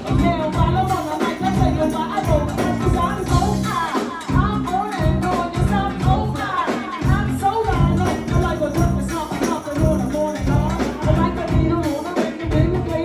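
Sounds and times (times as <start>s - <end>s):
band playing bass and percussion: 0.0s - 13.0s
person rapping: 0.0s - 13.0s.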